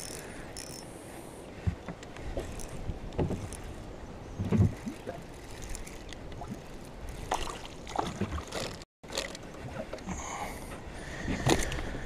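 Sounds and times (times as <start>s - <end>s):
water at the hull: 0.0s - 12.0s
handling noise and knocks in boat: 1.5s - 12.0s.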